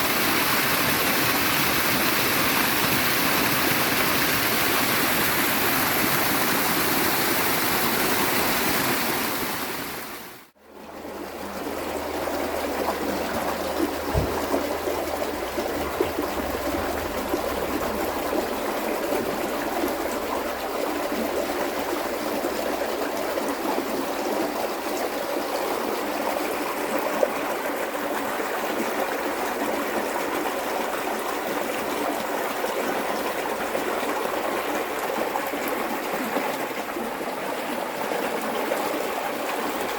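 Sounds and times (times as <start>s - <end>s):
river flowing with gurgles: 0.0s - 39.9s.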